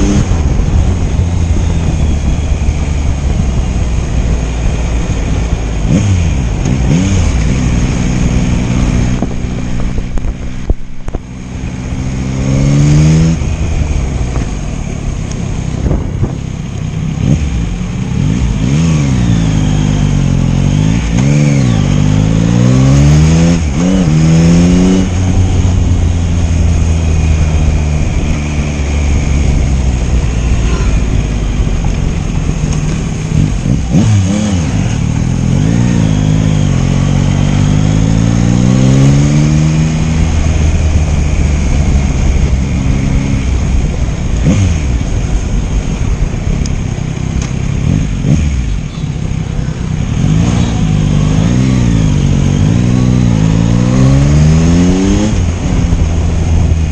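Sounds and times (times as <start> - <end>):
wind rushing: 0.0 - 16.6, 18.2 - 47.1
motorcycle engine revving: 0.0 - 56.9.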